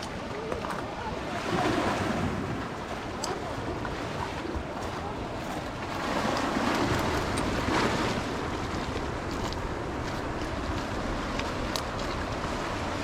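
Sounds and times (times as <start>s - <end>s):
sea waves breaking: 0.0s - 13.0s
wind rumbling on microphone: 0.0s - 13.0s.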